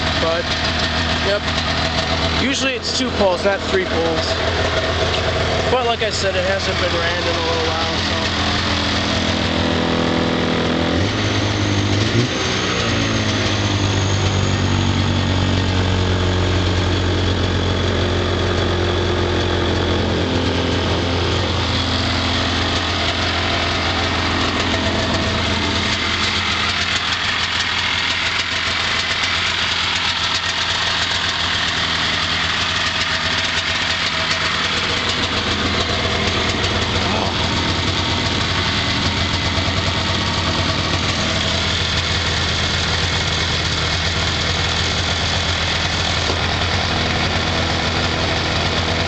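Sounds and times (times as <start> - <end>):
engine revving: 0.0 - 49.0
snowmobile engine idling: 0.0 - 49.0.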